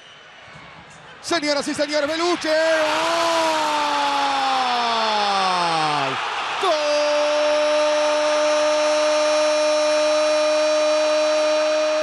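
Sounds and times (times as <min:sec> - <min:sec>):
stadium crowd noise: 0:00.0 - 0:12.0
commentator shouting goal: 0:01.4 - 0:12.0.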